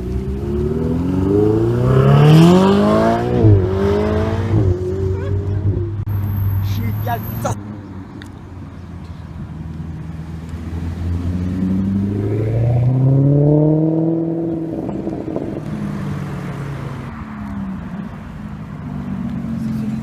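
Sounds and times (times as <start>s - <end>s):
sports car engine accelerating: 0.0s - 6.6s, 9.6s - 20.0s.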